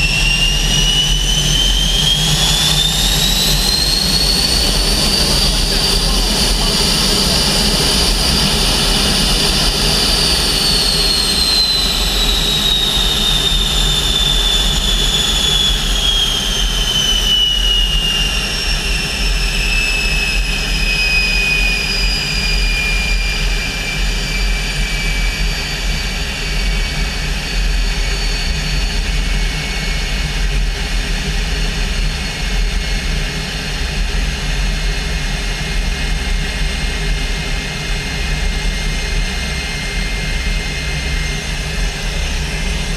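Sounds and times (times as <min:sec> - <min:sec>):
jet engine whine spooling down: 0:00.0 - 0:42.9.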